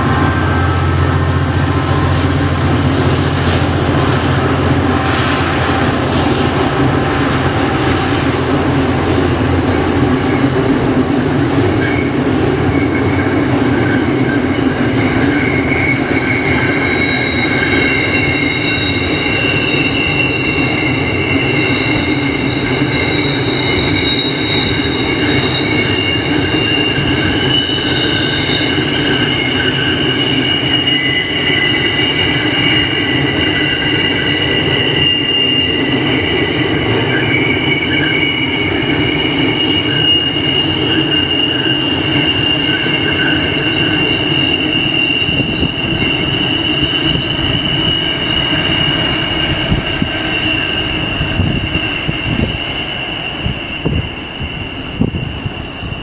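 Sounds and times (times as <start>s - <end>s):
high-pitched wheel squeal: 0.0s - 56.0s
train wagons rumbling past: 0.0s - 56.0s.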